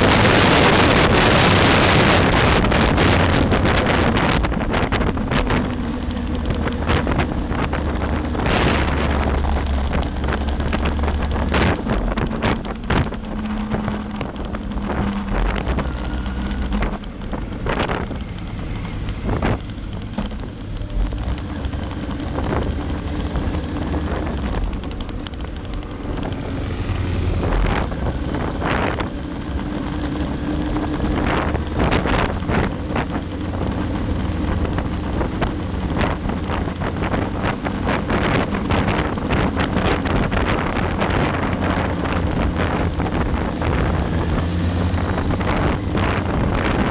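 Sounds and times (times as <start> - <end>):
motorcycle engine running: 0.0 - 46.9
wind buffeting on microphone: 0.0 - 46.9.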